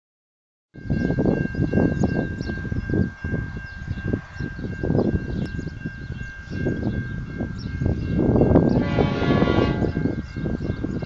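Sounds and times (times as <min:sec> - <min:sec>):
wind buffeting the microphone: 0:00.8 - 0:11.0.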